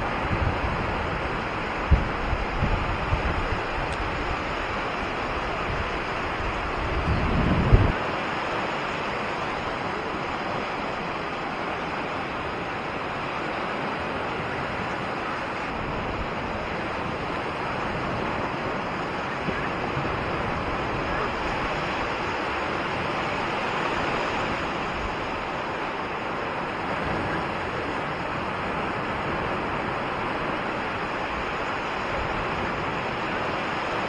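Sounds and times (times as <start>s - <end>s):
waves washing over sand: 0.0s - 34.0s.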